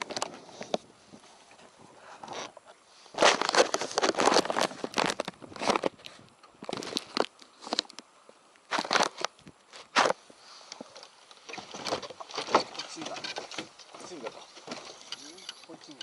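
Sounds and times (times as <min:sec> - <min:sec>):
rustling and crackling handling: 0:00.0 - 0:16.0.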